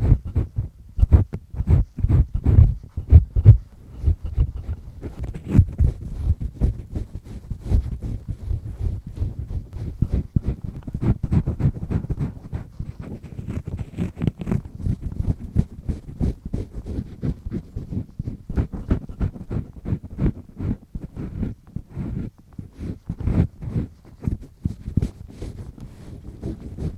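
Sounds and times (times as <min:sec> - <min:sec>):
ear pick scraping in ear: 0:00.0 - 0:26.9.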